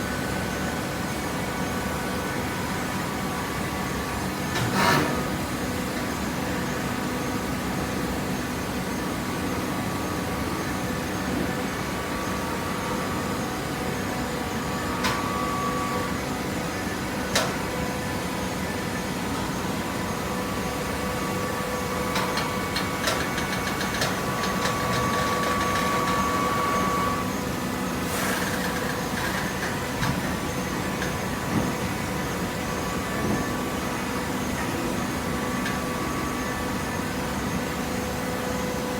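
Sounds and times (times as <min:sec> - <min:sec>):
baler motor and pump humming: 0:00.0 - 0:38.9.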